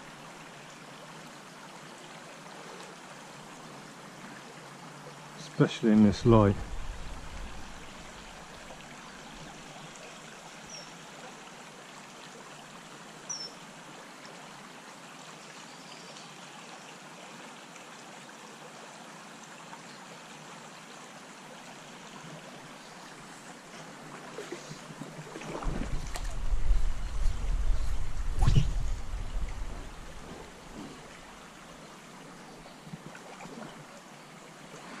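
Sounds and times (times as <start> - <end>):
small stream flowing: 0.0 - 35.0.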